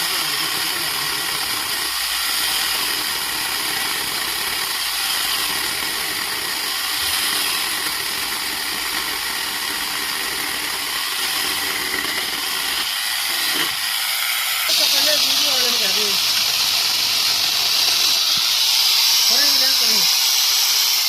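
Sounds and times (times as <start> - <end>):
power chainsaw cutting wood: 0.0 - 21.0.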